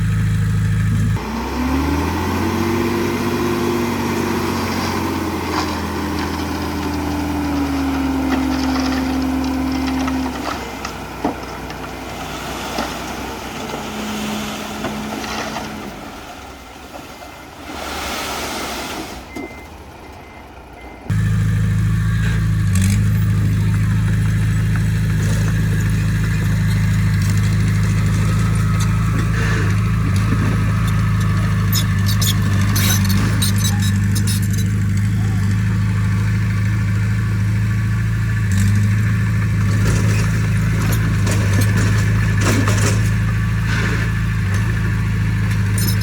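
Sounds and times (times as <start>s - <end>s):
heavy diesel engine running: 0.0s - 17.6s, 19.2s - 46.0s.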